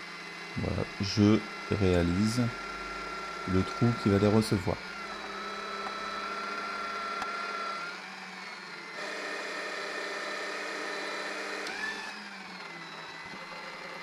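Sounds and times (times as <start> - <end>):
drill press cutting metal: 0.0 - 14.0.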